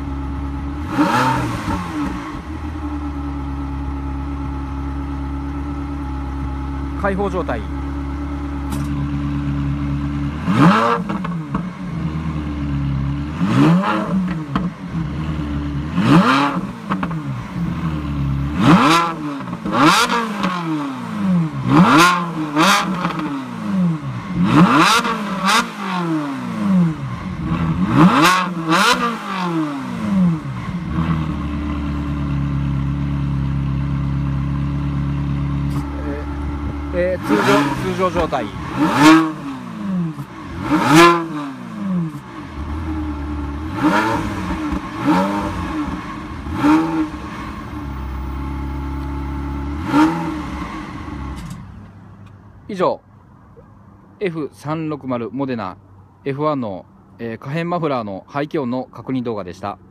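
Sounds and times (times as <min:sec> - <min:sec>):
sports car engine revving: 0:00.0 - 0:52.5.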